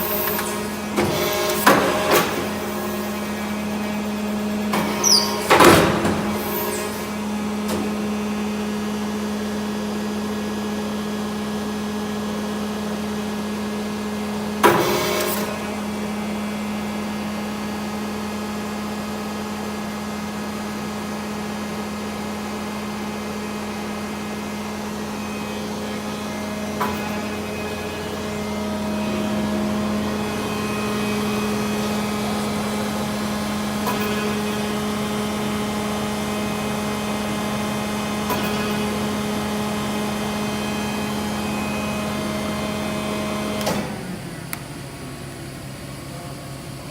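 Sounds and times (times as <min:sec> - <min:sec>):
hydraulic pump humming: 0:00.0 - 0:46.9.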